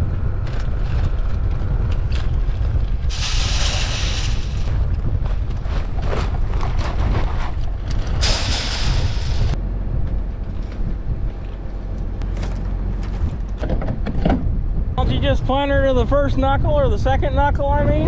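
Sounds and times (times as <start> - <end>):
low engine rumble: 0.0 - 18.0
wind buffeting microphone: 0.0 - 18.0.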